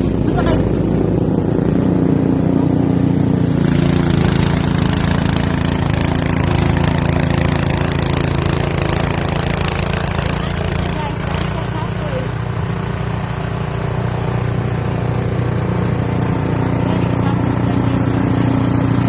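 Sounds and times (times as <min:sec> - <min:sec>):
snowblower engine running: 0:00.0 - 0:19.0.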